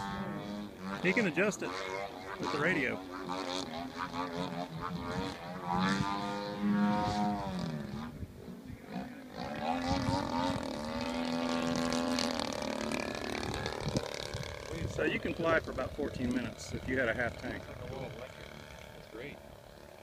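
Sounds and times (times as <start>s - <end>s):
model plane engine overhead: 0.0s - 20.0s.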